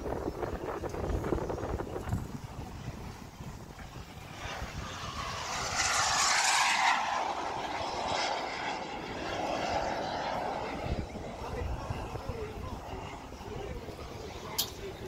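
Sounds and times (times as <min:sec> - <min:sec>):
model airplane engine passing: 0:00.1 - 0:15.0.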